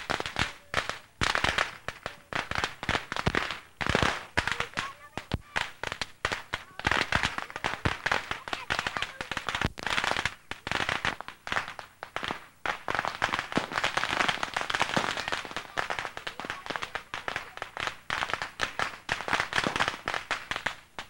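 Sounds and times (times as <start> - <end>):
firecrackers banging rapidly: 0.0 - 21.0.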